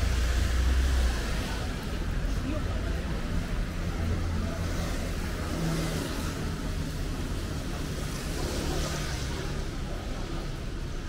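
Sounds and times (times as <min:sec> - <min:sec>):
city street traffic hum: 0:00.0 - 0:11.0.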